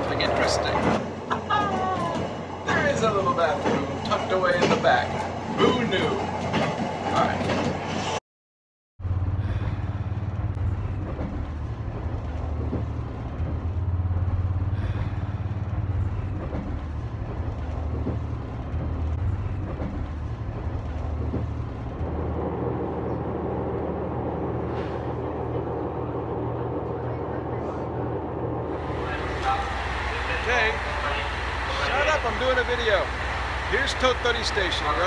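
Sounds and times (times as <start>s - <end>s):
train interior hum: 0.0s - 8.2s, 9.0s - 35.0s.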